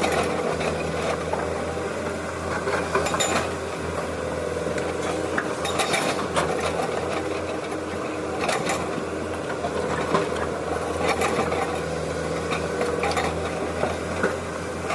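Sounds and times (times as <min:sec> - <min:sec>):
excavator motor hum: 0:00.0 - 0:14.9.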